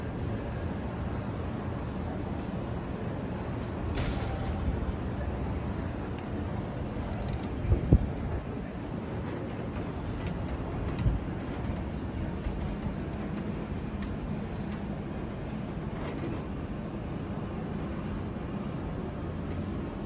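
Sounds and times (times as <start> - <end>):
machinery rumble and hiss: 0.0 - 20.0.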